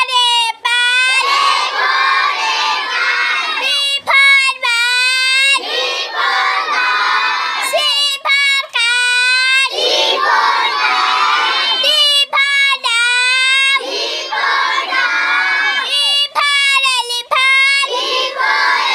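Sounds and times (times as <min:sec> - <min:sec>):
child chanting: 0:00.0 - 0:18.9
children chanting together: 0:00.0 - 0:18.9.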